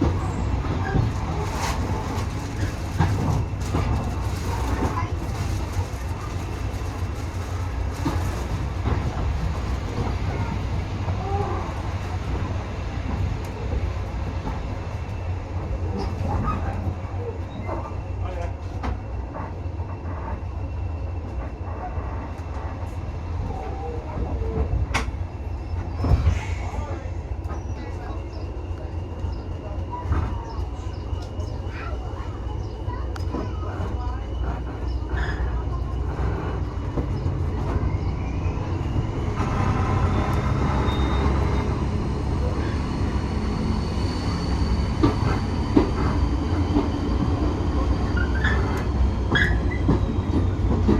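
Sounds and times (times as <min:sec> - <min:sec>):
train rumbling on track: 0:00.0 - 0:50.9.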